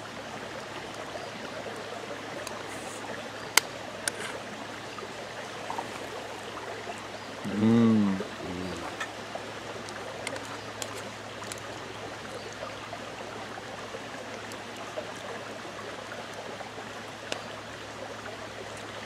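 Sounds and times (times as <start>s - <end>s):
creek running: 0.0s - 19.0s.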